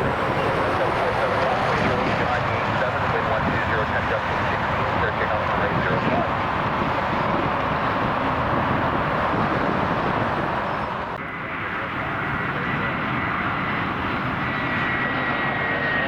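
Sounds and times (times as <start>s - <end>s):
high engine whine: 0.0s - 16.0s
jet engines rushing: 0.0s - 16.0s.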